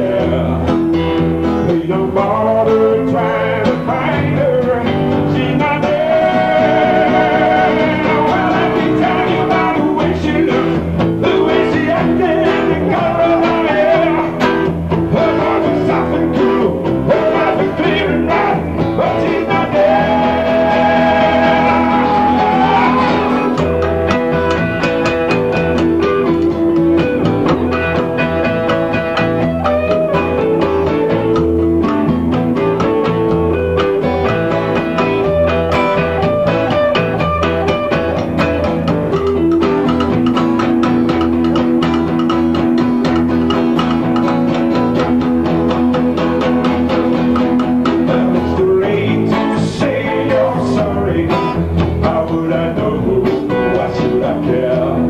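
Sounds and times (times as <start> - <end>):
acoustic bass: 0.0 - 55.0
electric guitar melody: 0.0 - 55.0
percussion: 0.0 - 55.0.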